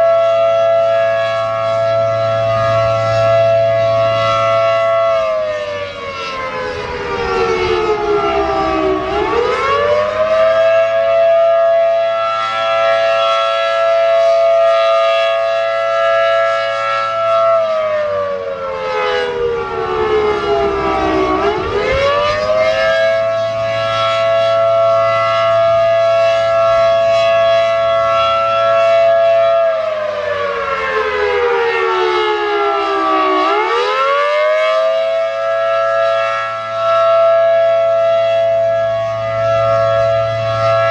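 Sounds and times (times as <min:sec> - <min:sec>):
rotating warning siren chord: 0:00.0 - 0:40.9.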